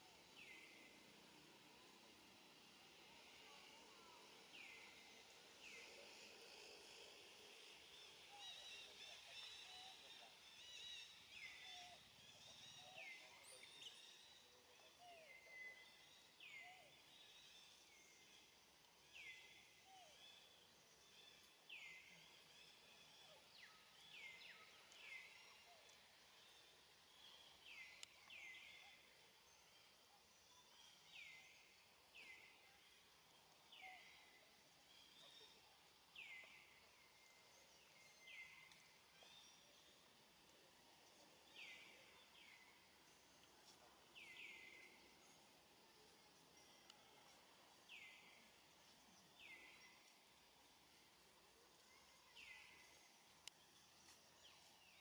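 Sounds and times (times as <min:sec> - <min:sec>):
faint outdoor background noise: 0:00.0 - 0:55.0.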